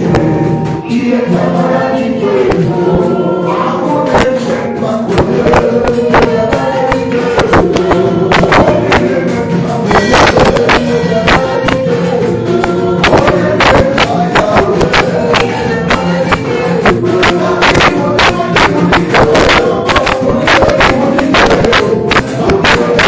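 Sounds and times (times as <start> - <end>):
fast percussion strikes: 0.0 - 23.0
gospel music with singing: 0.0 - 23.0.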